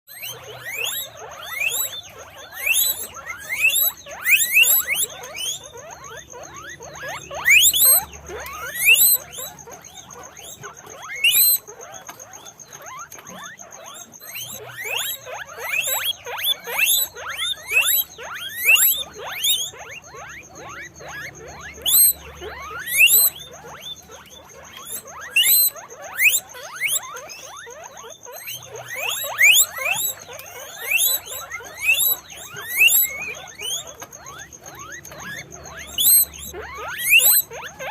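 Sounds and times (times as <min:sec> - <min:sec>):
guinea pigs squeaking: 0:00.1 - 0:37.9.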